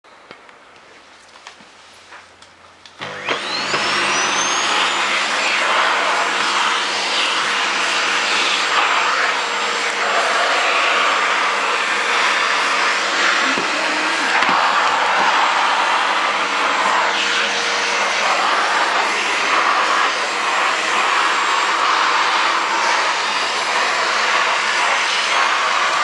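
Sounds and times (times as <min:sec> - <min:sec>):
vacuum cleaner motor whine: 0:02.9 - 0:26.0.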